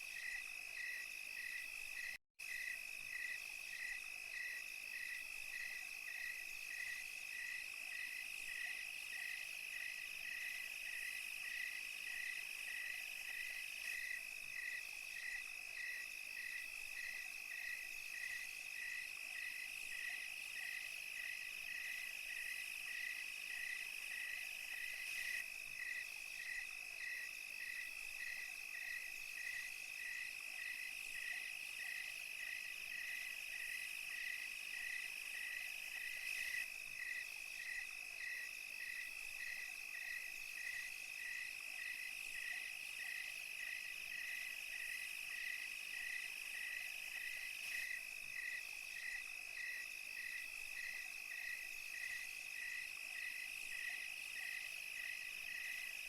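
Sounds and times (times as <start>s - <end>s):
insect chirping evenly: 0.0s - 56.0s
fine high insect buzz: 0.1s - 56.0s.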